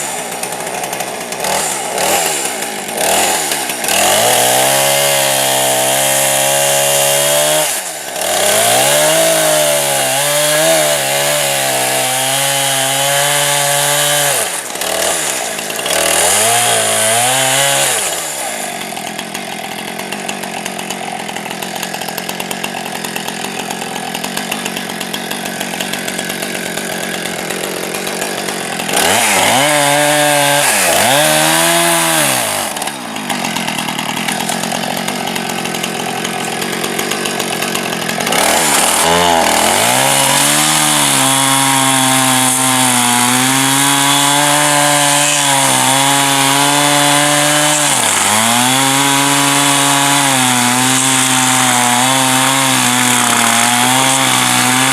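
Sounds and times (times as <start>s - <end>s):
electric chainsaw cutting wood: 0.0s - 54.9s.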